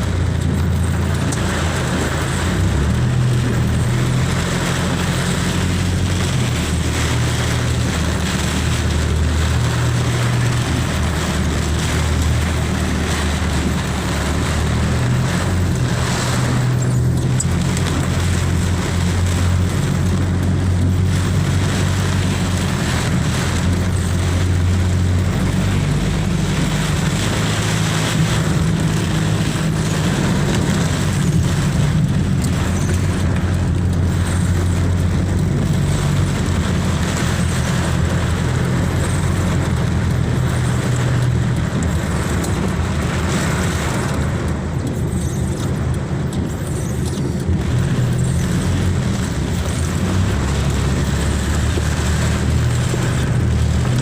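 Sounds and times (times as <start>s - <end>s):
car engine hum and road noise: 0.0s - 54.0s.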